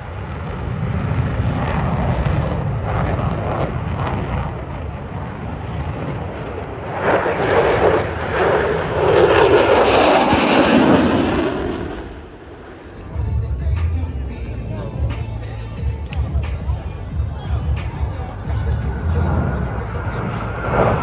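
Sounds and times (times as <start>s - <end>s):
military jet flying past: 0.0s - 13.2s, 16.3s - 21.0s.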